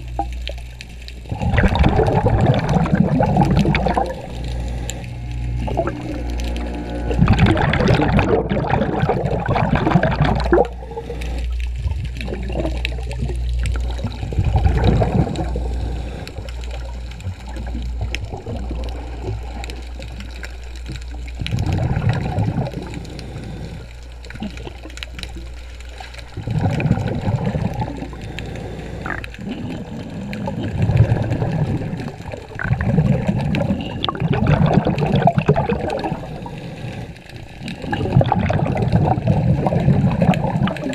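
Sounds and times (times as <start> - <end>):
low steady hum: 0.0 - 40.9
underwater exhaled bubbles gushing: 0.0 - 40.9.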